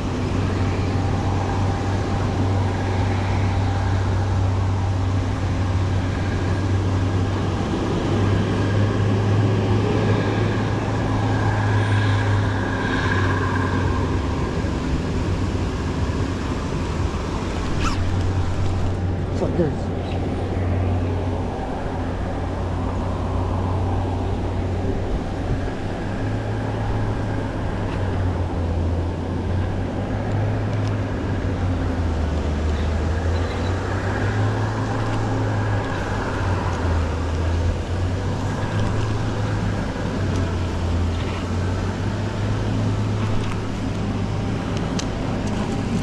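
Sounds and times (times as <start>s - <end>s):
low motor hum: 0.0s - 46.0s.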